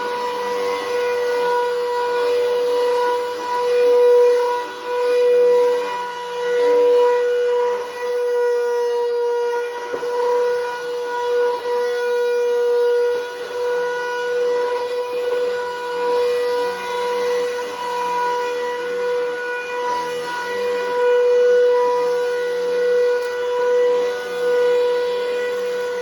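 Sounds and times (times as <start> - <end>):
vacuum cleaner high-pitched whine: 0.0 - 26.0.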